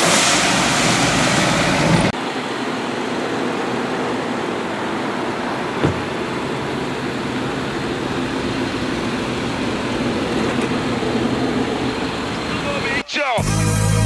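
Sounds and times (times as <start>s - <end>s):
car wash machinery rushing: 0.0s - 13.0s.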